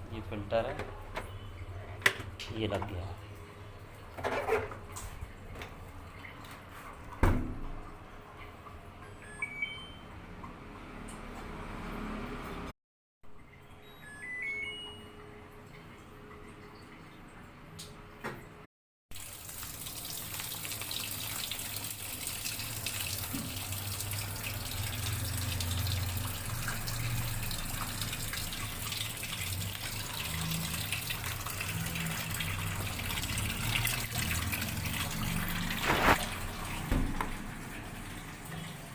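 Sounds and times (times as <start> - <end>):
water running into washing machine: 0.1 - 9.4, 15.4 - 38.9.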